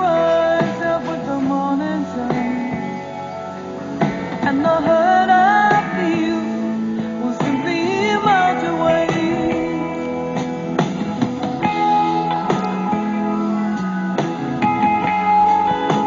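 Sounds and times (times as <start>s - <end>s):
guitar-led music: 0.0s - 16.0s.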